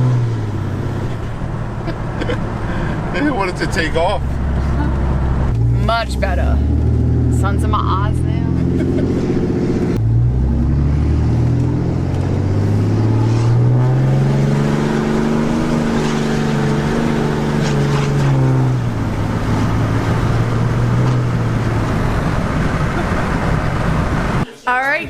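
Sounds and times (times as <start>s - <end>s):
diesel engine accelerating: 0.0s - 24.4s.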